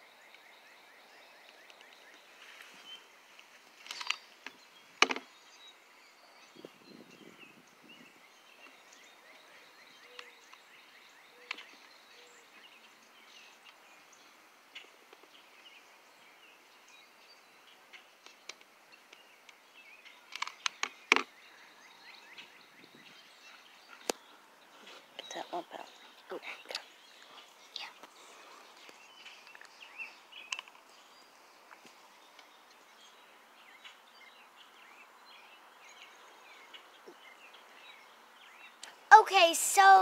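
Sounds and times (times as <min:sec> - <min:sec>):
faint outdoor background: 0:00.0 - 0:40.0.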